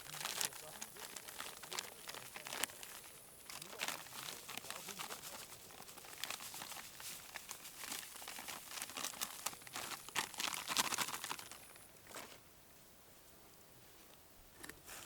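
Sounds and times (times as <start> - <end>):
crinkling and crackling: 0.0 - 12.4.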